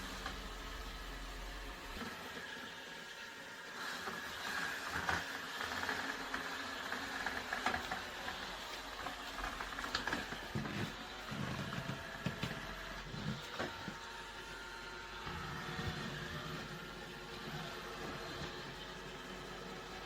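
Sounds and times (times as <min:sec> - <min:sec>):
robot vacuum motor humming: 0:00.0 - 0:20.0.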